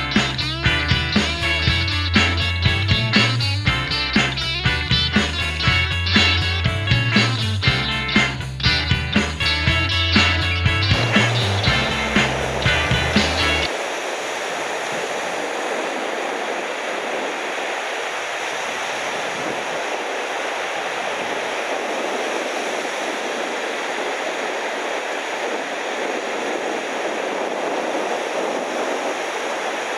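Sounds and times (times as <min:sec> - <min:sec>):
ocean surf breaking: 0:00.0 - 0:29.9.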